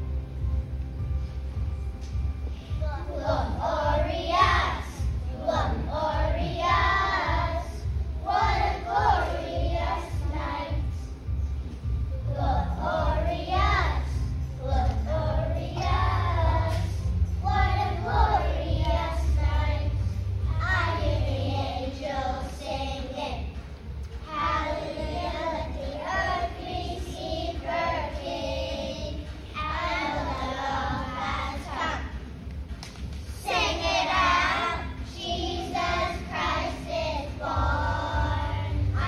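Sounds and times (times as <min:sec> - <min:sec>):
children's choir singing: 0:01.7 - 0:32.5, 0:33.3 - 0:39.0.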